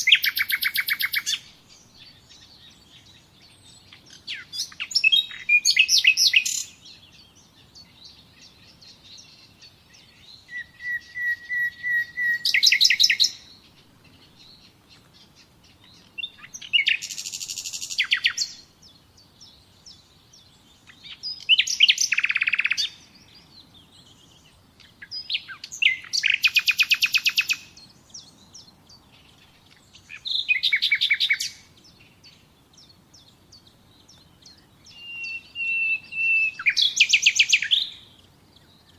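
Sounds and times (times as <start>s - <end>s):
songbird trilling: 0.0s - 38.9s.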